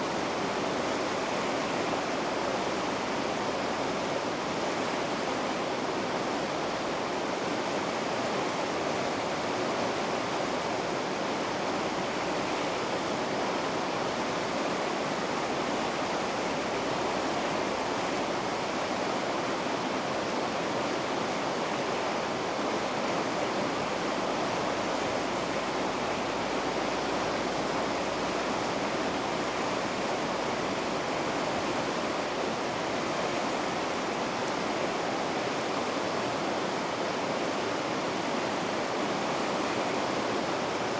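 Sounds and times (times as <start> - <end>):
river rapids roaring: 0.0 - 40.9.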